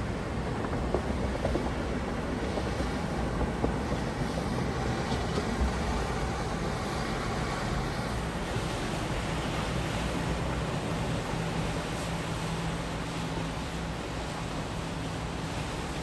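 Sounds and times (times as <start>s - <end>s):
boat engines rumbling: 0.0s - 16.0s
water wash: 0.0s - 16.0s.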